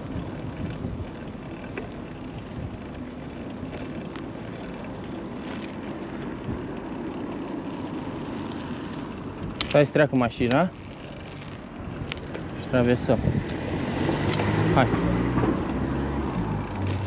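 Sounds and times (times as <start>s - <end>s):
bike tyres rolling on path: 0.0s - 17.0s.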